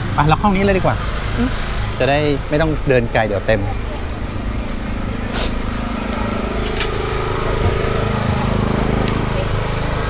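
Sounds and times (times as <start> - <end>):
small engine humming: 0.0 - 10.0.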